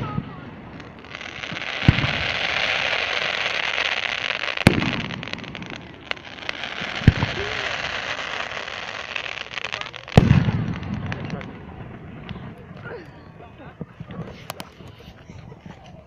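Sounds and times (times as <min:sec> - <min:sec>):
fireworks sharp bangs: 0:00.0 - 0:15.9
fireworks crackling: 0:00.0 - 0:16.0.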